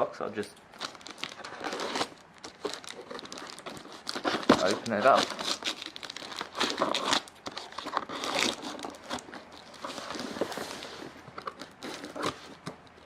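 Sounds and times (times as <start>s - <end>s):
cardboard and packing crinkling: 0.7s - 13.0s
packing tape tearing: 0.8s - 13.0s.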